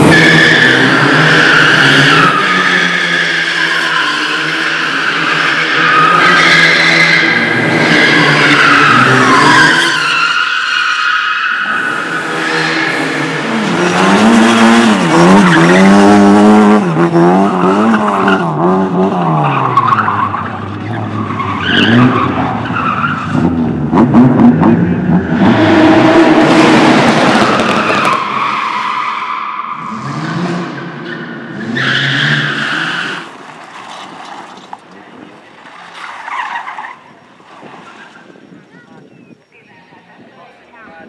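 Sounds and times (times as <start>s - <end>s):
car engines revving: 0.0s - 38.8s
tyres squealing and skidding: 0.0s - 40.0s.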